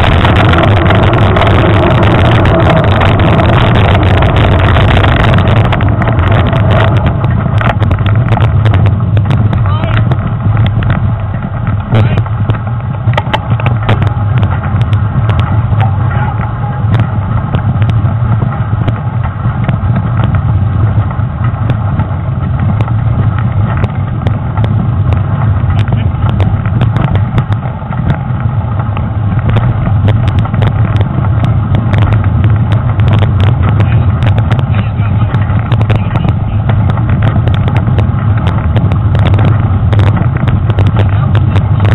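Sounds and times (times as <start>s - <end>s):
bike clicks and rattles: 0.0s - 41.9s
wind and tyre rumble: 0.0s - 41.9s.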